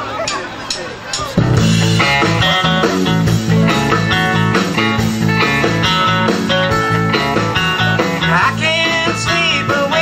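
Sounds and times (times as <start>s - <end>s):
lead guitar: 1.2s - 10.0s
bass line: 1.4s - 10.0s.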